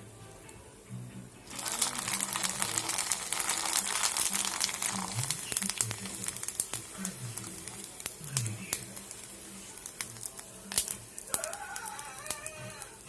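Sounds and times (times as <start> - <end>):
frying in hot oil sizzle: 1.4 - 13.0.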